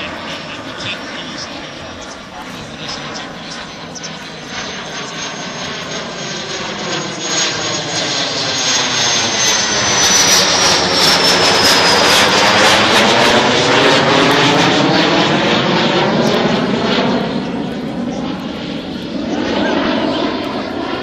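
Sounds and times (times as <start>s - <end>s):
high turbine whine: 0.0s - 21.0s
jet passing overhead: 0.0s - 21.0s.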